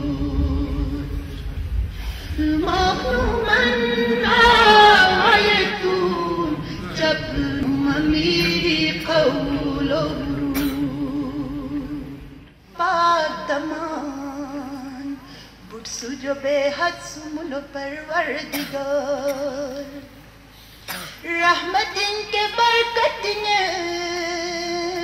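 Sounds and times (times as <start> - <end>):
woman singing unaccompanied: 0.0 - 1.4, 2.3 - 20.2, 21.2 - 25.0.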